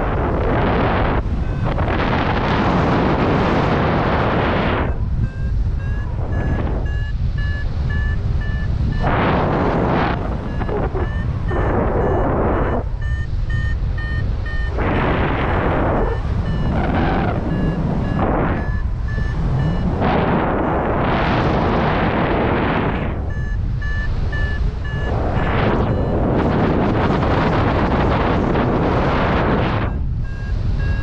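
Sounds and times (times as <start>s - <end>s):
short high variometer beeps: 0.0s - 31.0s
wind buffeting microphone: 0.0s - 31.0s.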